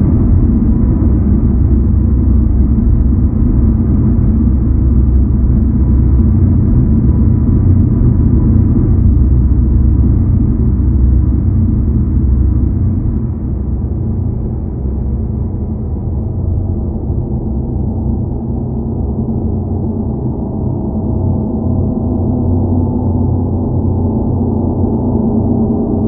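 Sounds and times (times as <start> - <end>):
deep low rumble drone: 0.0 - 26.0.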